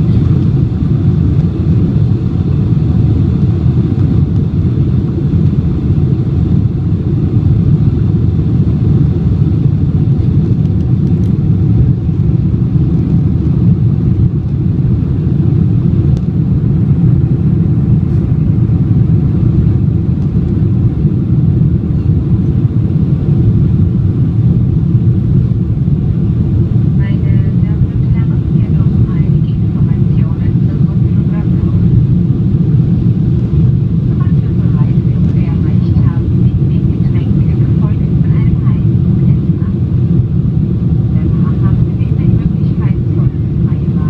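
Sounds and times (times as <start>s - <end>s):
jet engines rumbling in cabin: 0.0s - 44.0s
rushing airflow: 0.0s - 44.0s.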